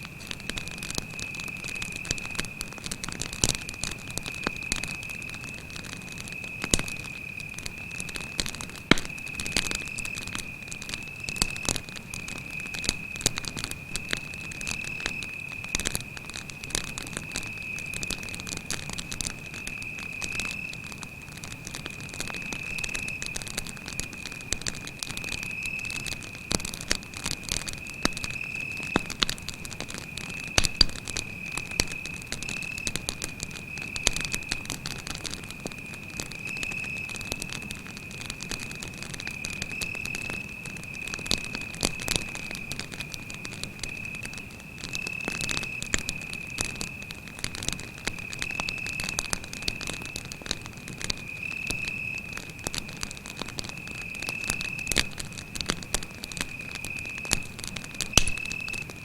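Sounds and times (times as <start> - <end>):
campfire crackling and popping: 0.0 - 59.0
cricket trilling: 0.2 - 59.0.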